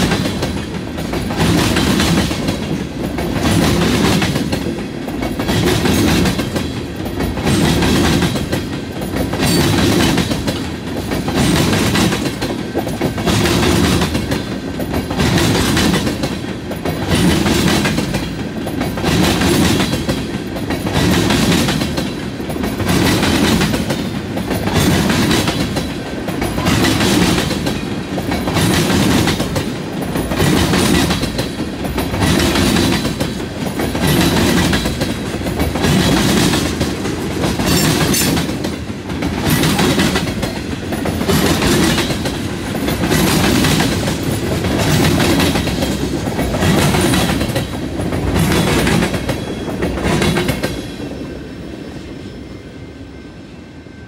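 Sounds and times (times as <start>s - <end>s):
train wheels clickety-clack: 0.0s - 51.4s.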